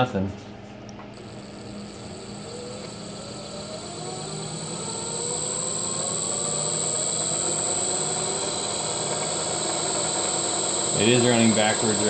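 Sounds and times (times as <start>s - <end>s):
electric motor whine spinning up: 1.2s - 12.0s
steady high-pitched whine: 1.2s - 12.0s.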